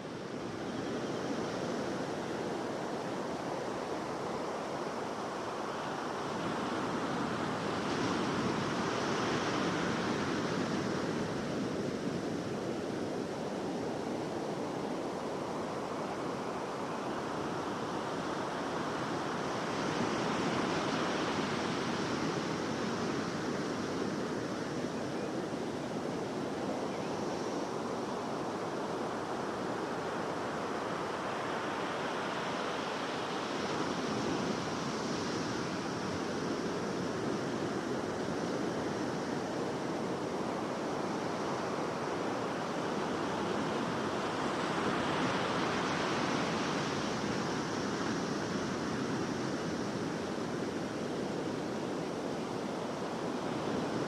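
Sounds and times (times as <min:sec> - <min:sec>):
ocean surf washing ashore: 0:00.0 - 0:54.0.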